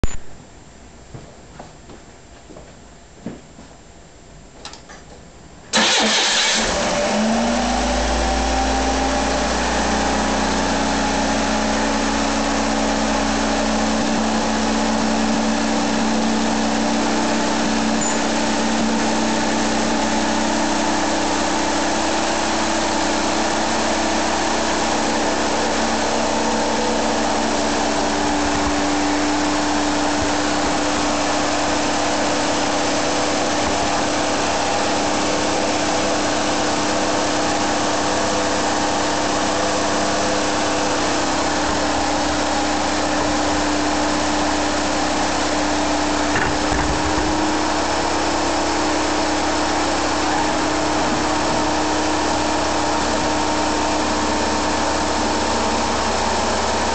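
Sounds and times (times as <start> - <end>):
car engine starting and idling: 5.7 - 56.9.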